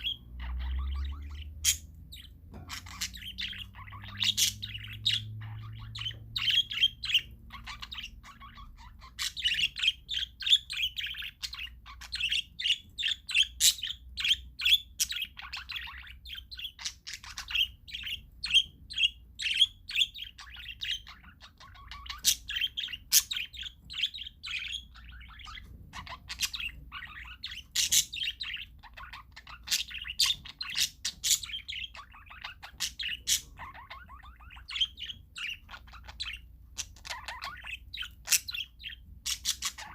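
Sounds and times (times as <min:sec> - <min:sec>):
parakeets chirping: 0:00.0 - 0:39.9.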